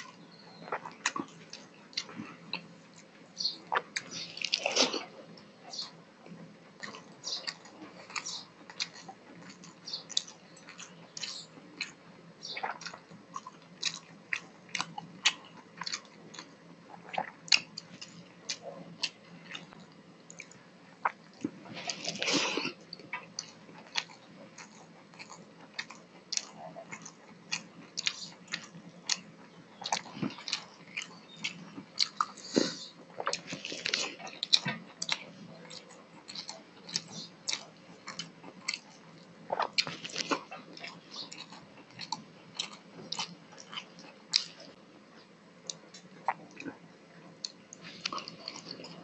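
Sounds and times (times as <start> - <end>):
chewing food: 0.0 - 49.0.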